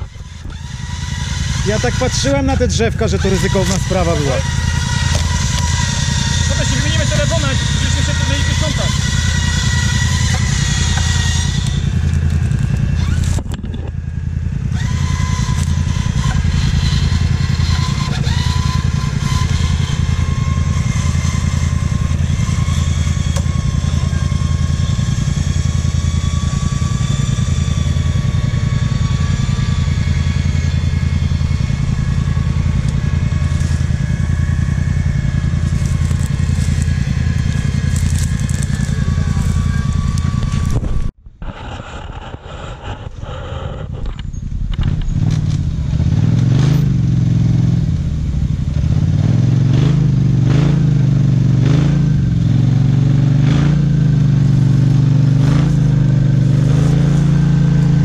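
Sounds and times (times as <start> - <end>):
quad engine running with whine: 0.0 - 58.0.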